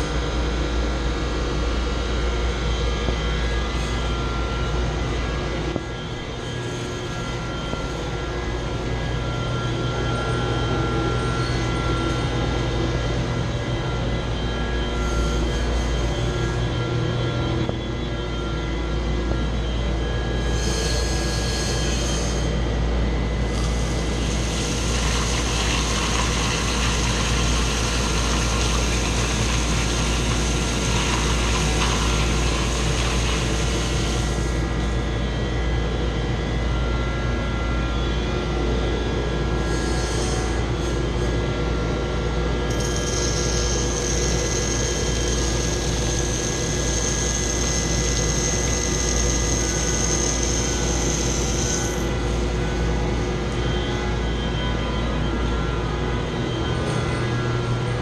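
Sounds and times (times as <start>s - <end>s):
high whine: 0.0s - 58.0s
machine drone and hum: 0.0s - 58.0s.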